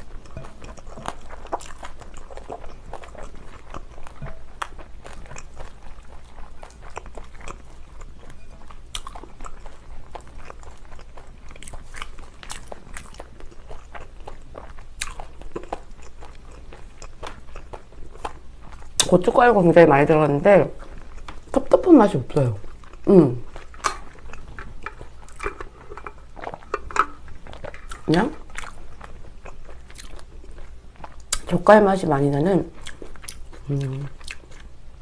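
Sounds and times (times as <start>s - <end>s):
person chewing crunchy food: 0.0s - 31.6s, 32.7s - 35.0s.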